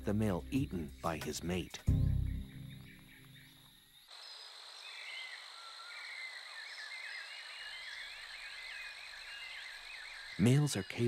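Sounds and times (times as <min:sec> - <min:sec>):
chirping calls: 0:00.8 - 0:11.0.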